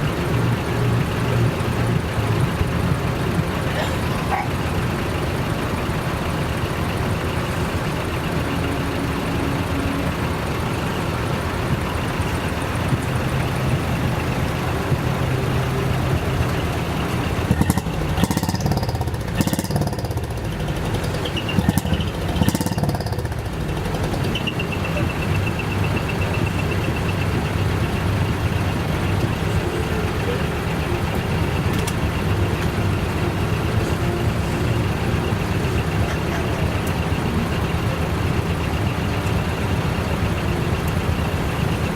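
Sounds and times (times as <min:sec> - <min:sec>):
truck diesel engines idling: 0:00.0 - 0:41.9.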